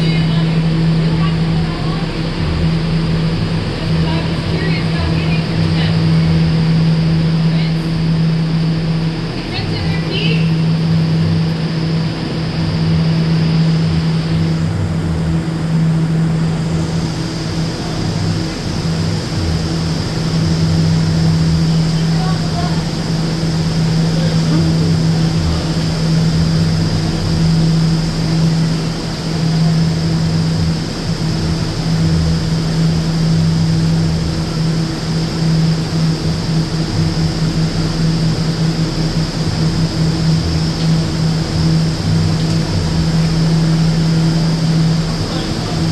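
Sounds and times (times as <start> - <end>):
air conditioning droning hum: 0.0 - 45.9
faint high whine: 0.0 - 45.9.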